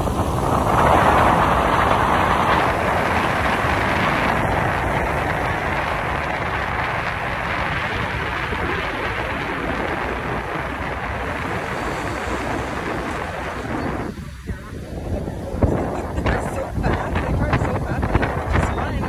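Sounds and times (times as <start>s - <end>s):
air rushing past: 0.0s - 17.3s
tyres and engine rumble: 0.0s - 19.0s.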